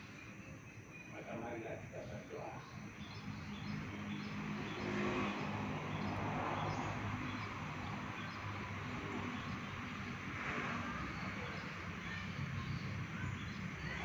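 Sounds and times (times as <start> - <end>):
vehicle engine hum: 1.2 - 14.0.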